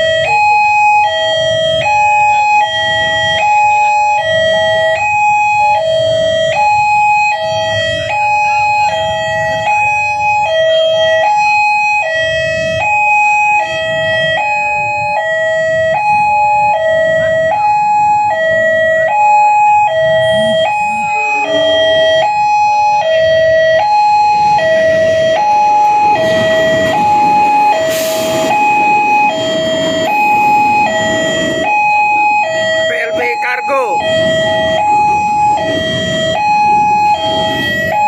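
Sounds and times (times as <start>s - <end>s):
level crossing alarm: 0.0s - 38.0s
road traffic rumble: 0.0s - 38.0s.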